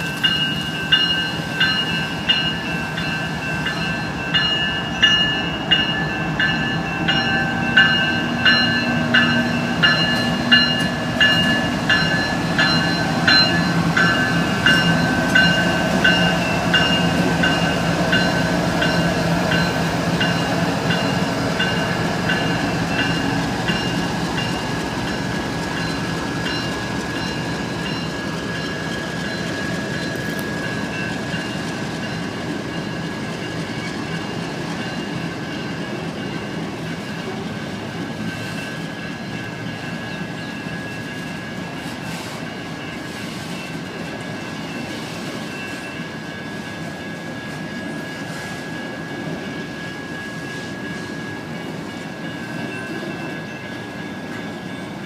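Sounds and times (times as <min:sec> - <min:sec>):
crossing bells ringing: 0:00.0 - 0:55.0
train wheels rumbling on rails: 0:00.0 - 0:55.0.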